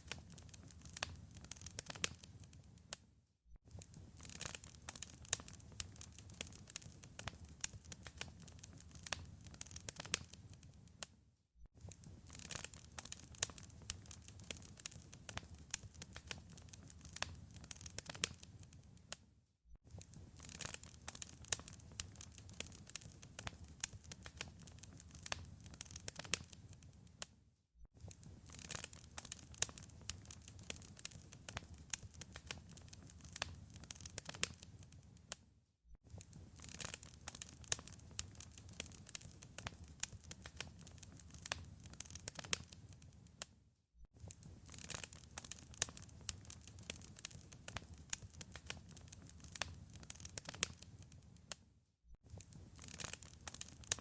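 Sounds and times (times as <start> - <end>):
wood fire crackling: 0.0 - 3.0, 3.7 - 11.0, 11.8 - 19.2, 19.9 - 27.2, 28.0 - 35.4, 36.1 - 43.5, 44.2 - 51.6, 52.3 - 54.0.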